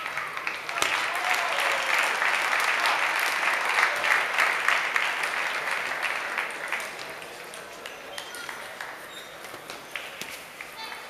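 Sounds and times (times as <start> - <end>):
spectators clapping: 0.0 - 11.0.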